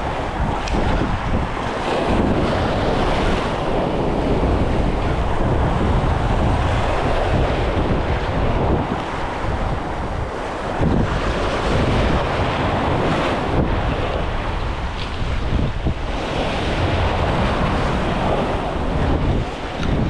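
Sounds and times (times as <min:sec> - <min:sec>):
waves and surf: 0:00.0 - 0:20.0
wind buffeting microphone: 0:00.0 - 0:20.0.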